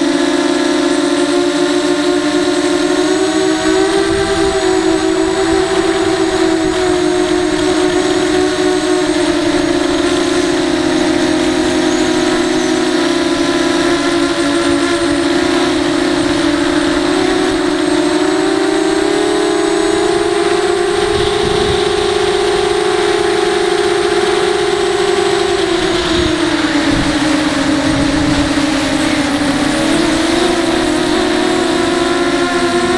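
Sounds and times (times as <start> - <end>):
quadcopter motors droning: 0.0 - 32.9.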